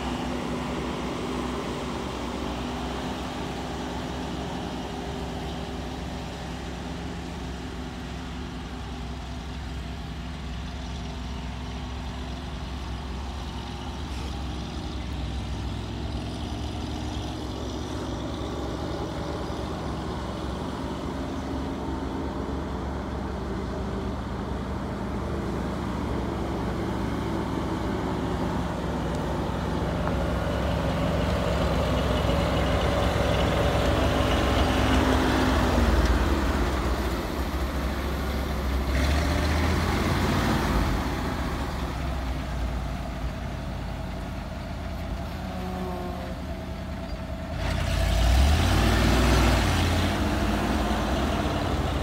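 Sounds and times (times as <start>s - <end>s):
truck engine driving: 0.0s - 52.0s.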